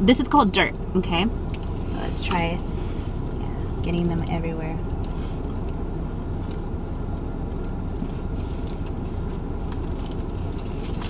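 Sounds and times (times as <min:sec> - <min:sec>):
car engine running low rumble: 0:00.0 - 0:11.0.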